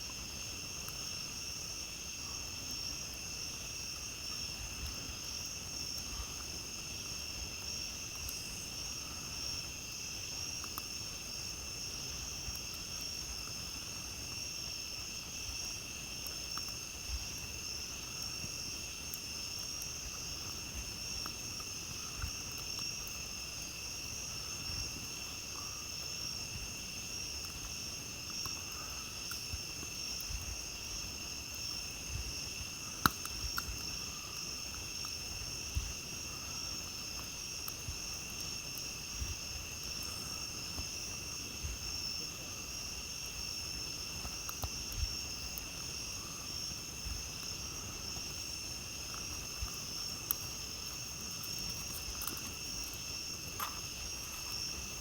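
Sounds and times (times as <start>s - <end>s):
campfire crackling with pops: 0.0s - 55.0s
night insects trilling: 0.0s - 55.0s.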